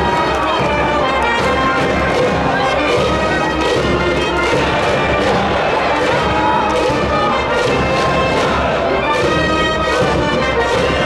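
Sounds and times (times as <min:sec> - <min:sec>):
bass drum beat: 0:00.0 - 0:09.5
brass band playing: 0:00.0 - 0:11.0.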